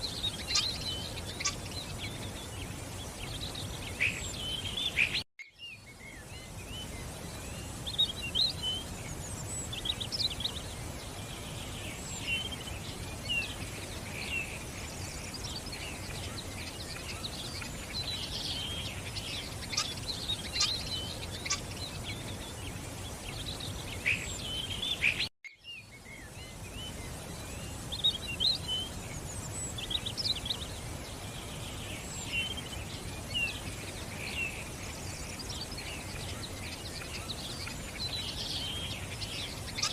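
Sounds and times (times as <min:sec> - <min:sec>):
birds chirping and trilling: 0:00.0 - 0:39.9
low background noise: 0:00.0 - 0:39.9.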